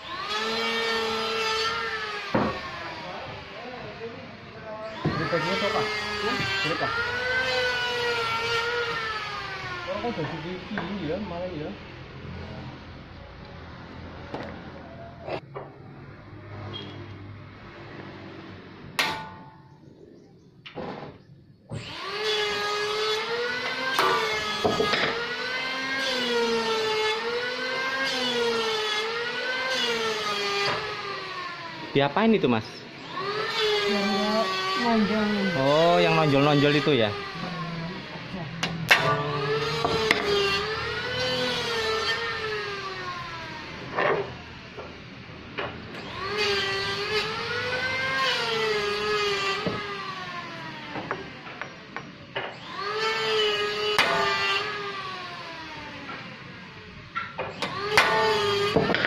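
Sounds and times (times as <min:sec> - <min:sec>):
band sawmill whirring hum: 0:00.0 - 0:16.8, 0:21.1 - 0:59.0.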